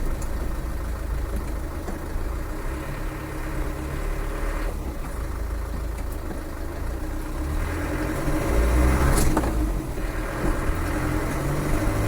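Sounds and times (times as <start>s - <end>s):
diesel engine rumble while driving: 0.0s - 12.0s.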